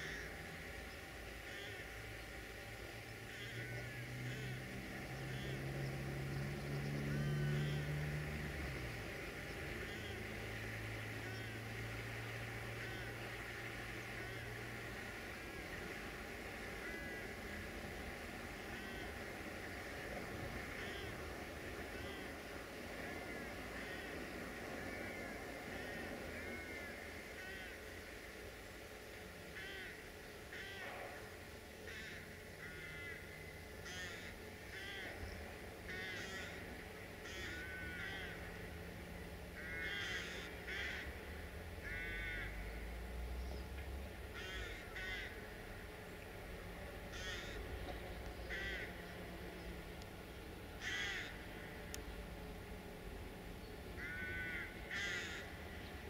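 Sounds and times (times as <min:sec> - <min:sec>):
crows cawing: 0:00.0 - 0:00.6, 0:01.3 - 0:02.1, 0:03.2 - 0:06.3, 0:06.9 - 0:08.6, 0:09.5 - 0:28.1, 0:29.4 - 0:43.0, 0:44.3 - 0:46.0, 0:46.9 - 0:49.4, 0:50.8 - 0:52.0, 0:54.0 - 0:55.9
low steady engine hum: 0:00.0 - 0:56.0.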